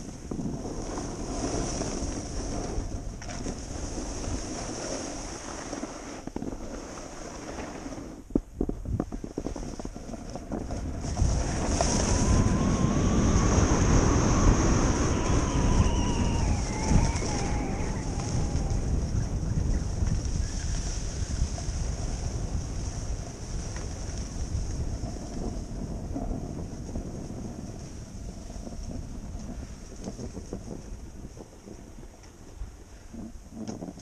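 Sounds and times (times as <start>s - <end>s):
edges scraping over packed snow: 0.0s - 30.6s
wind rushing over microphone: 0.0s - 34.0s.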